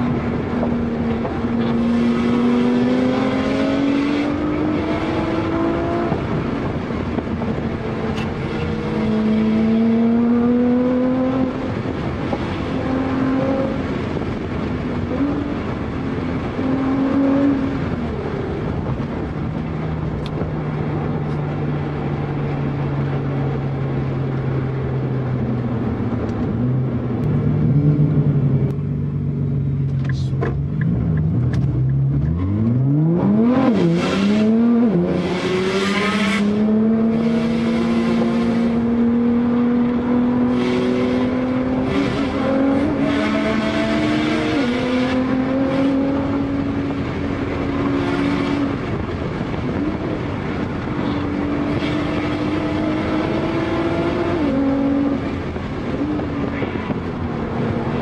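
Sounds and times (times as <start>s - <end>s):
sports car engine accelerating: 0.0s - 58.0s.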